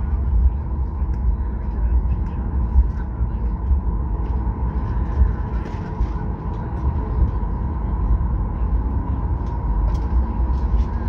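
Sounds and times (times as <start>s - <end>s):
jet engine whine: 0.0s - 11.0s
wheels and airframe rumble: 0.0s - 11.0s.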